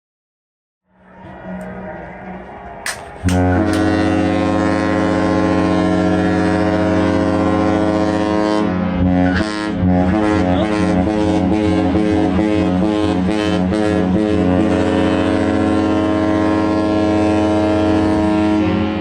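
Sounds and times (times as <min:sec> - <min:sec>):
ship's horn blast: 0:01.0 - 0:19.0.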